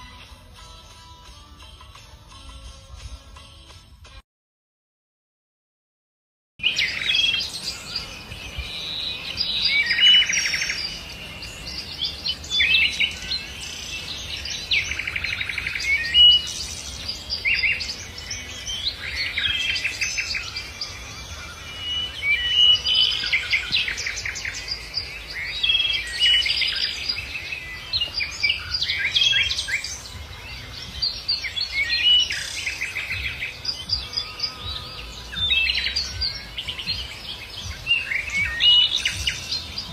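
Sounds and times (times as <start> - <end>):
songbirds singing: 6.6 - 39.9.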